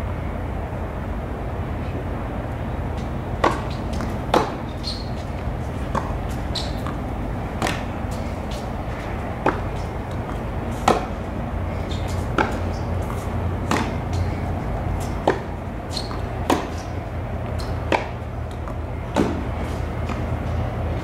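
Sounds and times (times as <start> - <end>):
steady low rumble: 0.0 - 21.0
tennis balls hit by racquets: 3.0 - 21.0.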